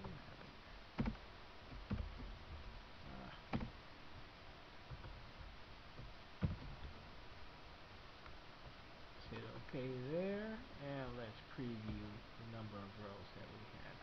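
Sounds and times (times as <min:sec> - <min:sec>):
low room hiss: 0:00.0 - 0:14.0.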